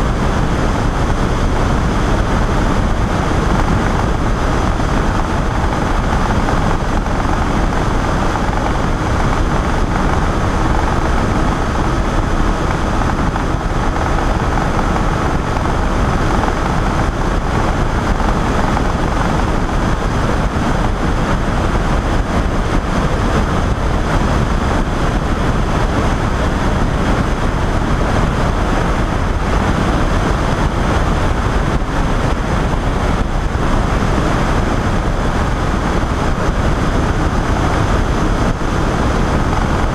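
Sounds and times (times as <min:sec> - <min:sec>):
microlight engine and propeller drone: 0:00.0 - 0:39.9
wind rushing over microphone: 0:00.0 - 0:39.9.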